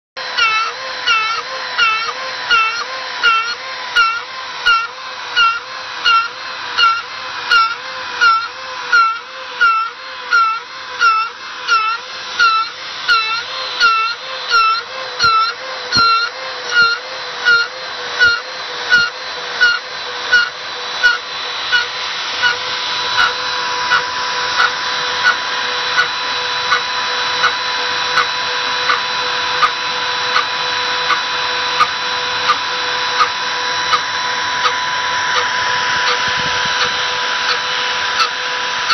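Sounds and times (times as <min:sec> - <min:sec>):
router milling steel whine: 0:00.2 - 0:38.9.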